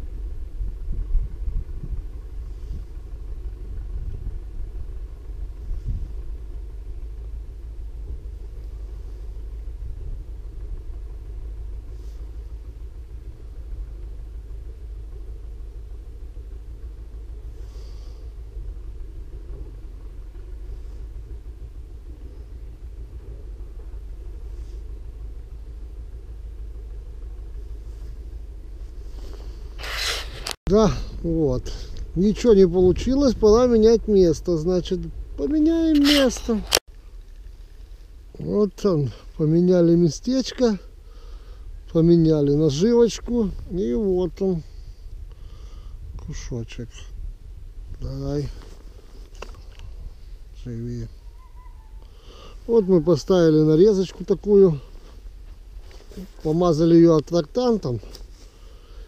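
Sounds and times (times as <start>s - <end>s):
low uneven rumble: 0.0s - 59.0s.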